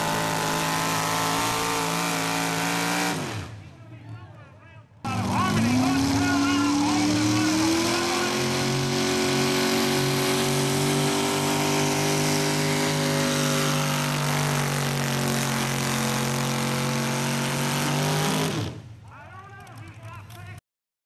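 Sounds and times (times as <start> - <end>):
truck engine at full throttle: 0.0 - 3.6, 5.1 - 19.0.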